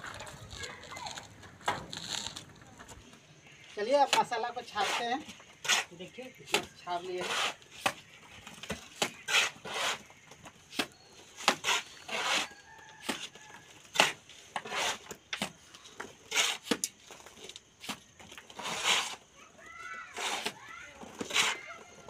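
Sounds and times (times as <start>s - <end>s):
trowels scraping mortar on brick: 3.8s - 22.0s.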